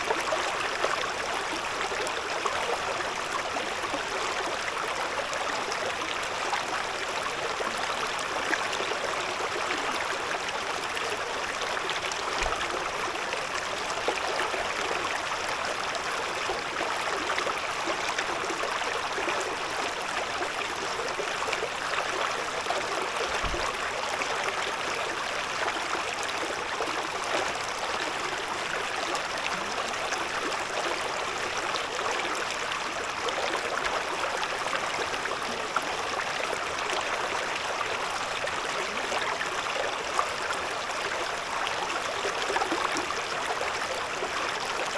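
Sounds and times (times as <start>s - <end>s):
stream babbling over stones: 0.0s - 44.9s.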